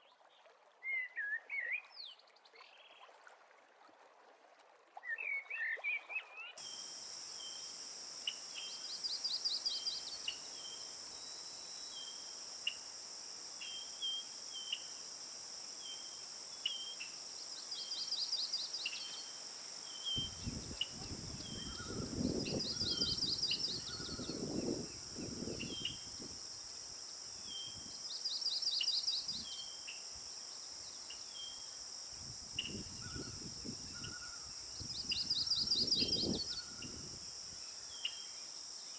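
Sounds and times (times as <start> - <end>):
insects buzzing: 6.6 - 38.9.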